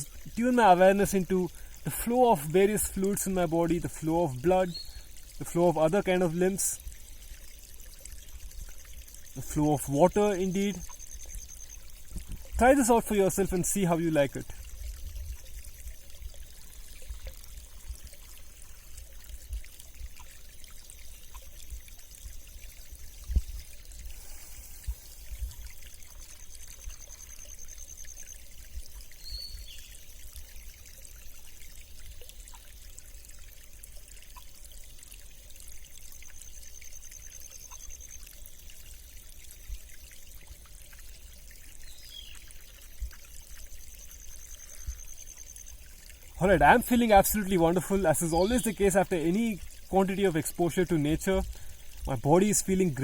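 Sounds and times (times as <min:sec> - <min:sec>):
stream flowing and bubbling: 0:00.0 - 0:53.0.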